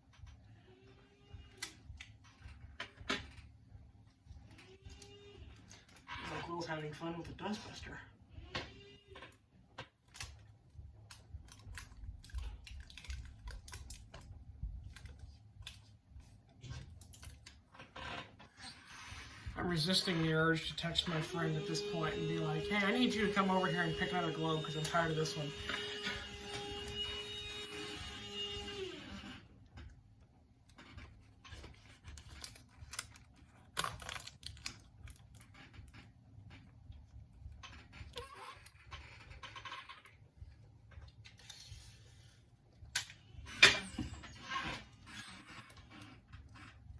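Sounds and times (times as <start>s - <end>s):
tape clicks and scrapes: 8.6s - 46.9s.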